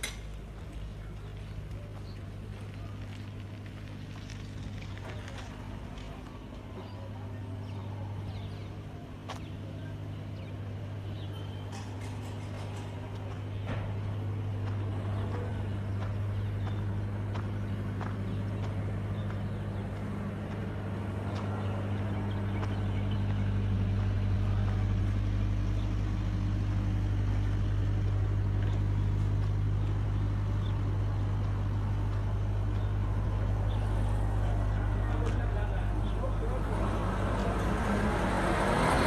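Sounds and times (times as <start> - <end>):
engine humming: 0.0 - 39.0.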